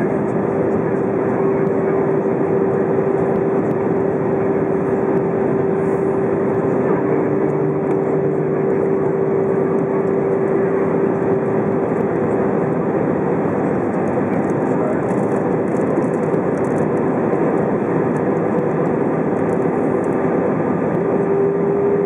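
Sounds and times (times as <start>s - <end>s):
airflow and engine rush: 0.0s - 22.0s
steady hum: 0.0s - 22.0s.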